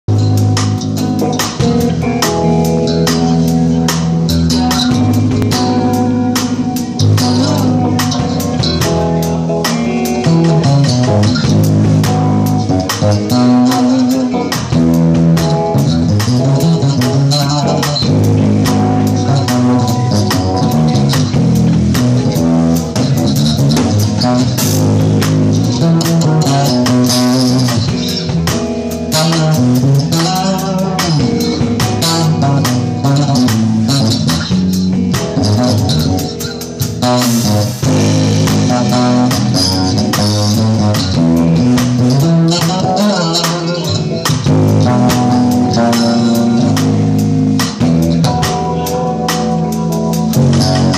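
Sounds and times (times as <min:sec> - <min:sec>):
electric bass guitar solo: 0:00.0 - 0:50.9.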